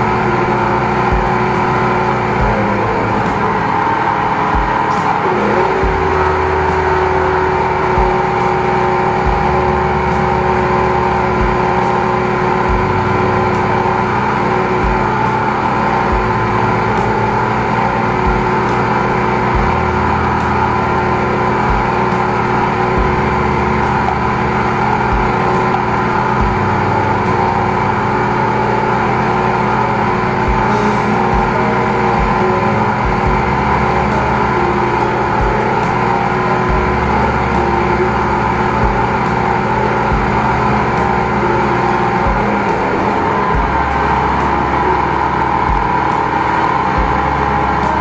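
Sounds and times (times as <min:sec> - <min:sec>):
drain jetter engine and pump drone: 0:00.0 - 0:48.0.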